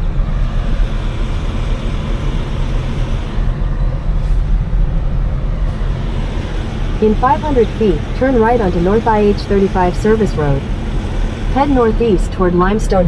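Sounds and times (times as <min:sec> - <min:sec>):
vehicle engine rumble from inside: 0:00.0 - 0:13.0.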